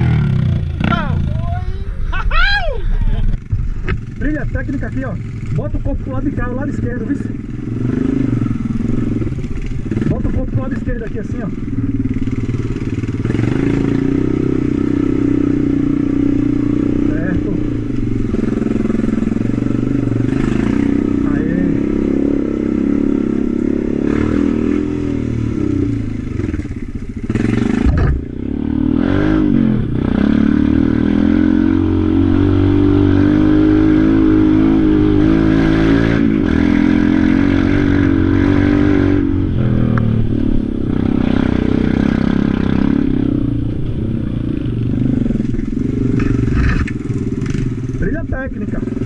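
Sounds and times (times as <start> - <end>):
quad bike engine running: 0.0 - 2.0, 3.0 - 49.0.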